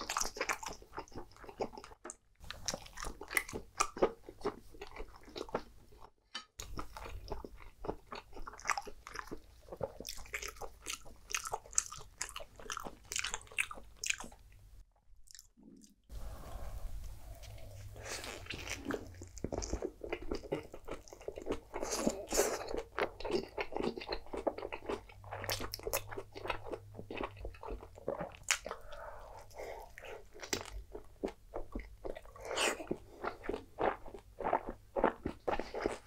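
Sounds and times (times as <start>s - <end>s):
chewing with wet smacks: 0.0s - 14.4s, 18.2s - 36.0s.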